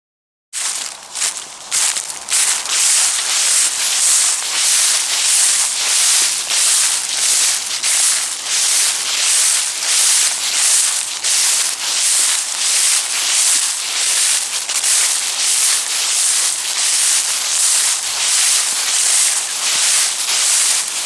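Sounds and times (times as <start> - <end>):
footsteps on dry leaves: 0.6 - 21.0.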